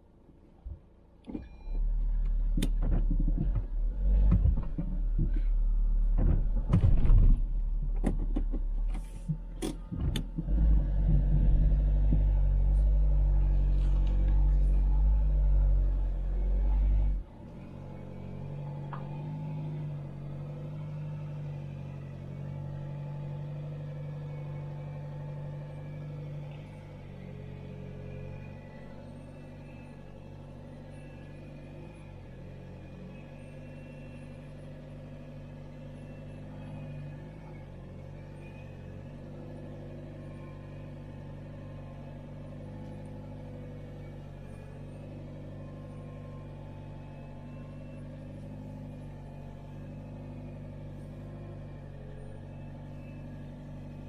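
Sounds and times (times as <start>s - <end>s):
van engine running at low revs: 0.0s - 54.0s.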